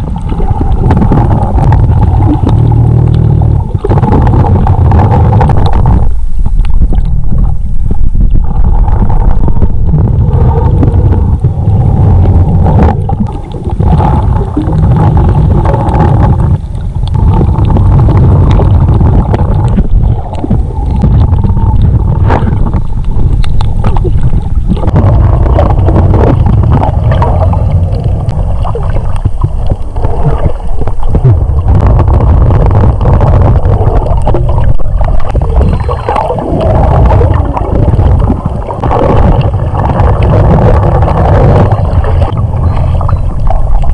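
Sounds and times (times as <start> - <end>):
bubble crackles and clicks: 0.0 - 43.9
underwater rumble: 0.0 - 43.9
water swirling: 0.0 - 43.9.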